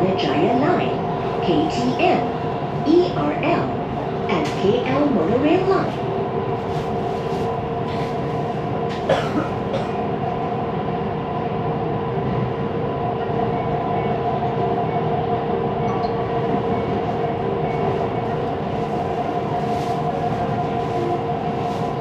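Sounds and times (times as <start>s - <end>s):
metro train rolling drone: 0.0s - 22.0s.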